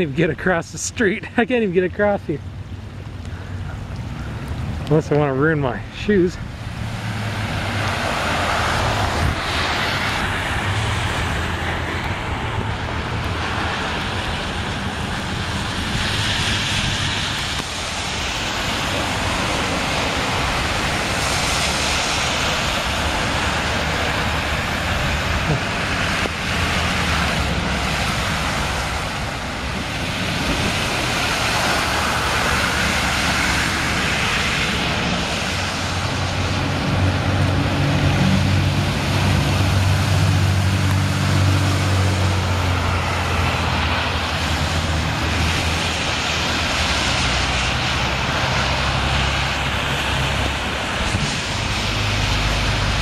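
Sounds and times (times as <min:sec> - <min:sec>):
tyres rushing through floodwater: 0:00.0 - 0:53.0
vehicle engine hum: 0:00.0 - 0:53.0.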